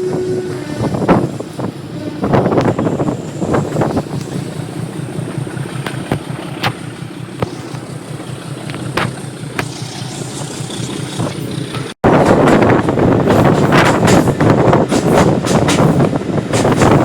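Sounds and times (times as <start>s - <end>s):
diesel train engine running: 0.0s - 17.0s.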